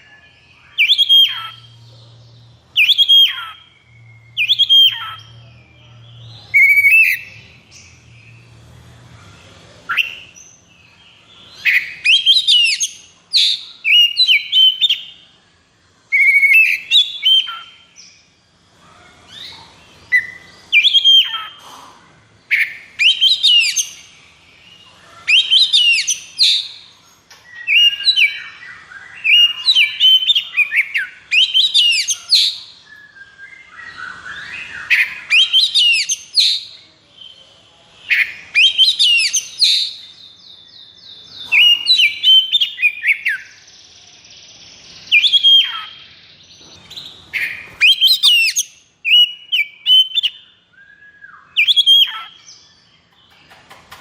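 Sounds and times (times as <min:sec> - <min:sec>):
bird singing whistles and trills: 0:00.0 - 0:08.5, 0:09.8 - 0:15.3, 0:16.1 - 0:18.3, 0:19.3 - 0:21.6, 0:22.5 - 0:53.5.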